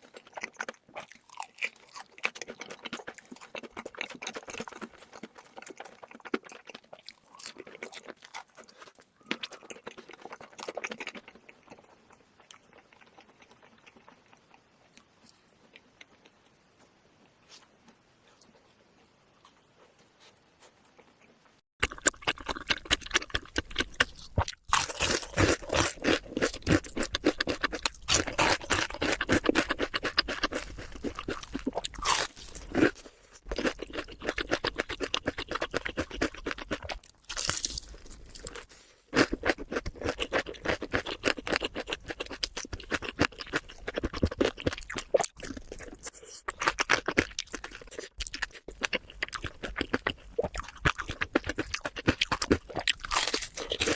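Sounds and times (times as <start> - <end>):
crunching and chewing food: 0.0 - 53.9.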